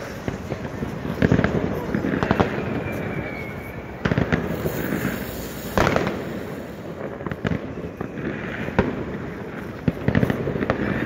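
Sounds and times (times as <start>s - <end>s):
crackling and distant pops: 0.0s - 11.0s
firecracker bangs: 0.0s - 11.0s.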